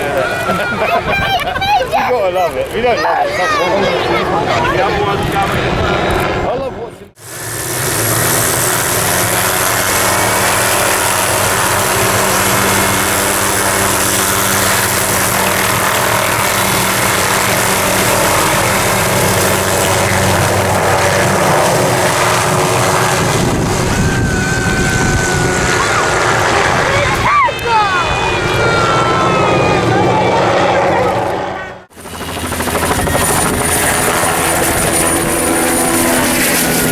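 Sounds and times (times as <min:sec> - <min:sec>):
helicopter rotor and engine: 0:00.0 - 0:36.9.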